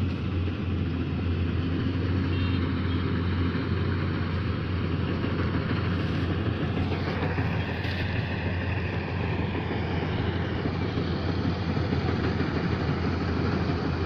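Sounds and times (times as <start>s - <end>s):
combine harvester engine hum: 0.0s - 14.0s.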